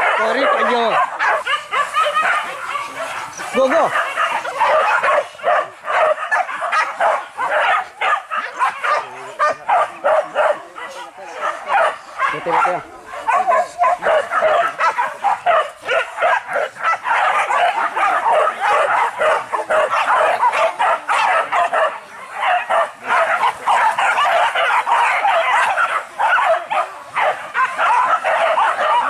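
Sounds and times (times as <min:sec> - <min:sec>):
dogs barking and yelping: 0:00.0 - 0:29.0.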